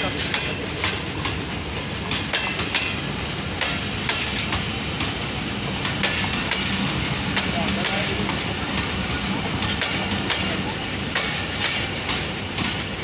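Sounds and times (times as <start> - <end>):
train wheels rumbling on rails: 0.0 - 13.0
wheels clacking over rail joints: 0.0 - 13.0.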